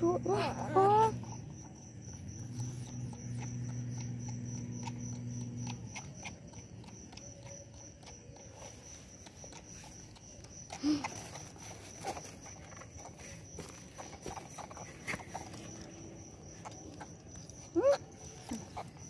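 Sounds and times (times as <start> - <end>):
high insect trill: 0.0 - 19.0
low motor hum: 0.0 - 19.0.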